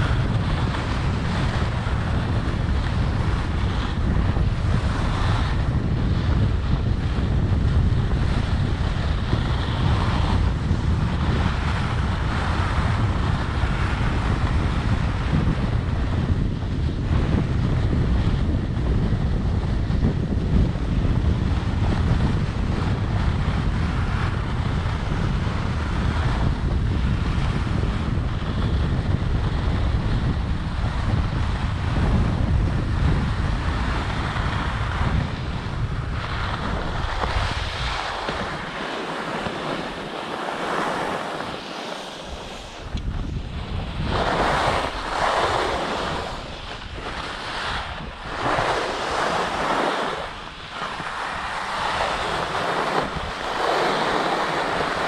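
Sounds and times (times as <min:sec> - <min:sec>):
skis scraping over snow: 0:00.0 - 0:55.0
wind buffeting microphone: 0:00.0 - 0:55.0.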